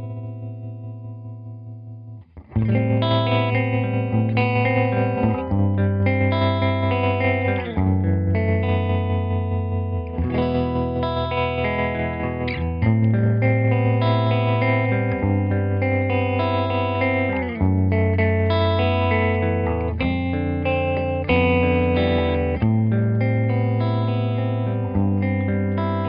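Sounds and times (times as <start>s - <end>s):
tremolo electric guitar chords: 0.0s - 26.0s.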